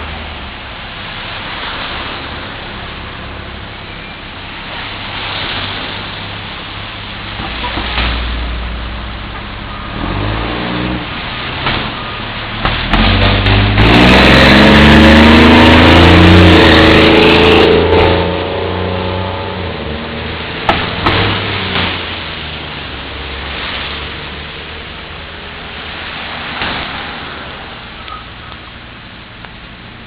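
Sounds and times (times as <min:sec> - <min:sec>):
fire truck engine accelerating: 0:00.0 - 0:30.0.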